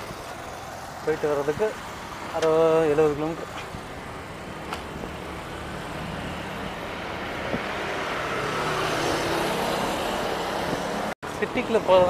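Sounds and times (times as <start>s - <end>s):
car and motorcycle engines: 0.0s - 12.0s.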